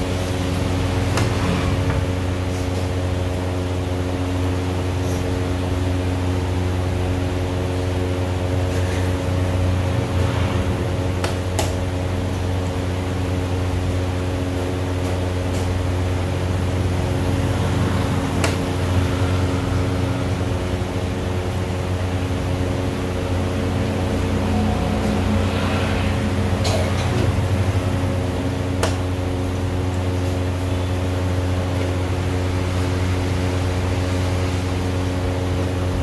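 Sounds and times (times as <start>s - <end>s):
machine hum: 0.0s - 36.0s.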